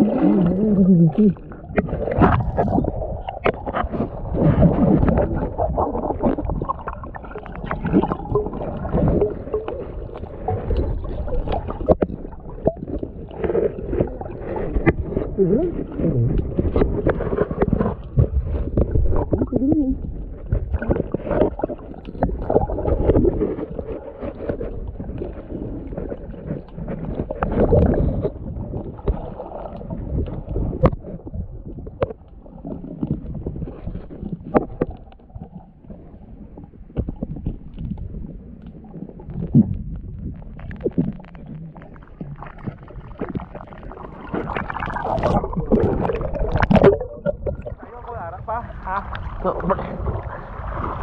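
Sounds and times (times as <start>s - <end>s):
muffled underwater sloshing: 0.0s - 51.0s.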